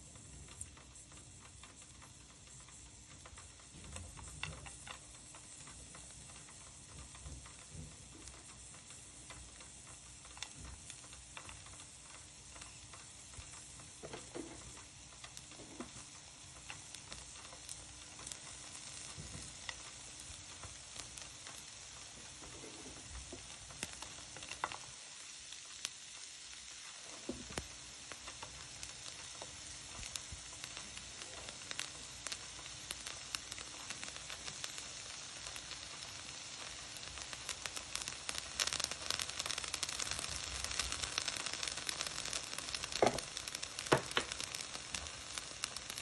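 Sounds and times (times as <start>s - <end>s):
vegetables sizzling in frying pan: 0.0s - 46.0s.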